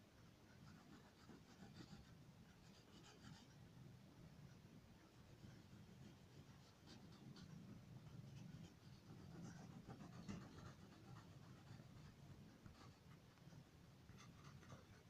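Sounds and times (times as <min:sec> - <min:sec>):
crayon scratching on paper: 0:00.5 - 0:03.6, 0:05.4 - 0:13.5, 0:14.1 - 0:15.0.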